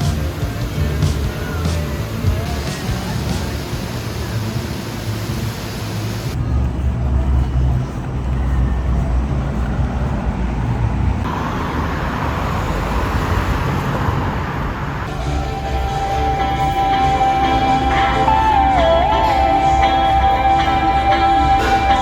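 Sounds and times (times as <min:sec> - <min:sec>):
vehicle road rumble and hiss: 0:00.0 - 0:22.0.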